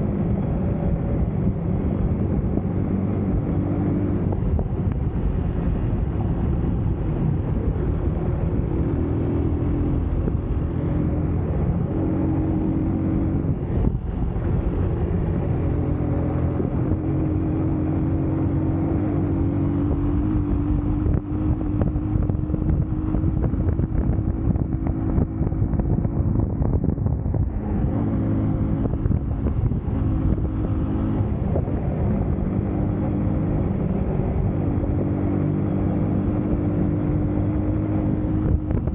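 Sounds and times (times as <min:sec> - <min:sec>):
motorcycle engine revving: 0:00.0 - 0:38.9
wind buffeting microphone: 0:00.0 - 0:38.9.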